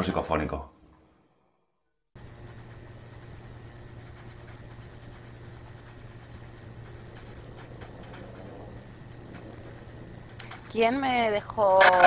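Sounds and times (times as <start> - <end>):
low electrical hum: 2.2 - 12.0.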